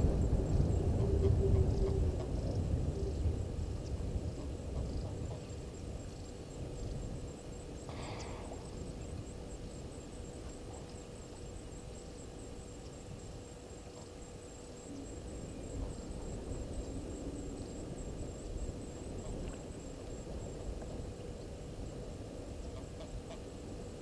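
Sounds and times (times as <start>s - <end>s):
low rumble: 0.0s - 11.8s, 14.5s - 23.1s
faint insect trill: 0.0s - 24.0s.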